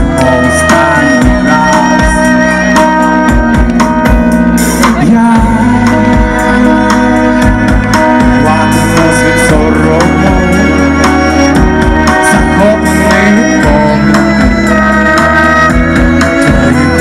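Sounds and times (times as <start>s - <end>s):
man singing: 0.0s - 3.6s, 4.6s - 17.0s
drum beat: 0.0s - 17.0s.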